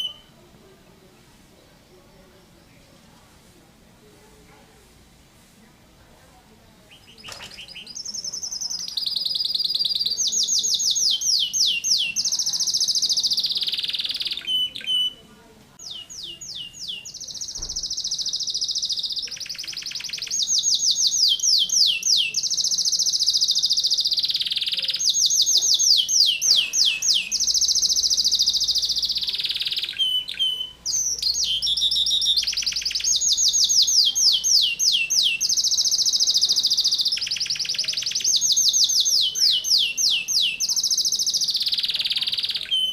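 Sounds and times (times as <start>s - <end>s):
canary singing rapid trills: 6.9s - 42.9s.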